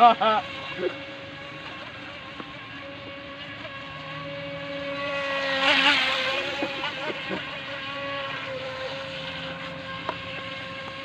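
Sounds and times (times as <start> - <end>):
rc boat electric motor whining: 0.0 - 11.0.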